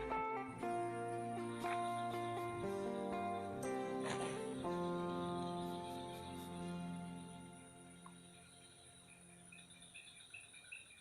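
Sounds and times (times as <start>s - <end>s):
soft instrumental music: 0.0s - 9.6s.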